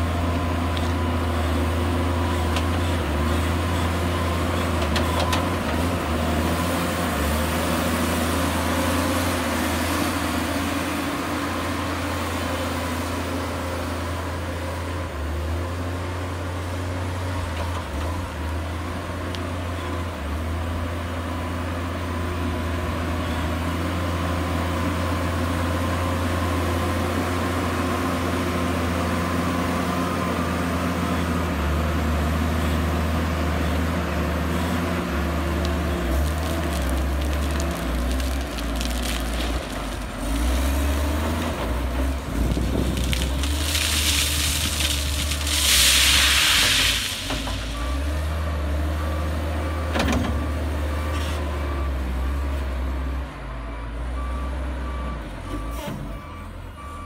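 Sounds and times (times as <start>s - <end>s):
wheel loader diesel engine: 0.0s - 57.0s.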